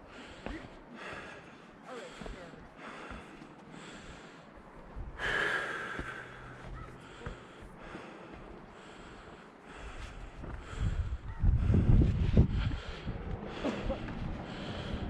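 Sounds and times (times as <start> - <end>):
person breathing hard: 0.0 - 15.0
loud gasping breath: 0.1 - 4.5, 5.2 - 15.0.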